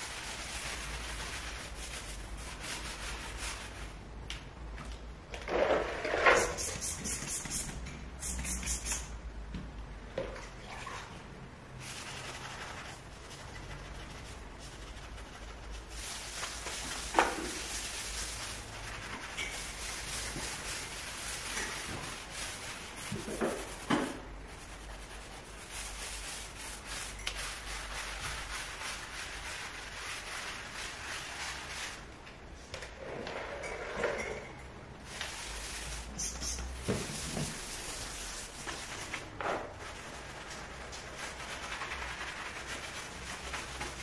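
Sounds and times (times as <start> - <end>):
sponge scrubbing wooden floor: 0.0 - 4.0, 5.7 - 9.0, 11.8 - 32.1, 35.1 - 44.0.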